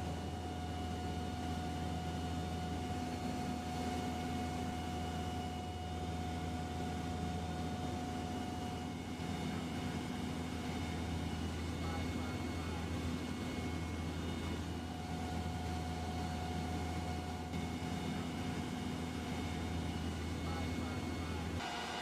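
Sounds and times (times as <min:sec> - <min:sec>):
aircraft engines droning: 0:00.0 - 0:21.6.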